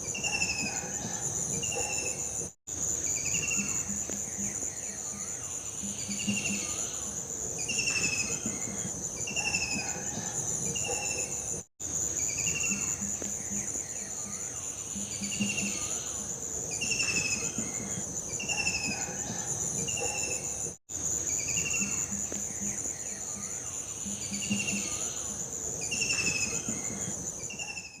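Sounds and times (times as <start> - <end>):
high insect trill: 0.0 - 28.0.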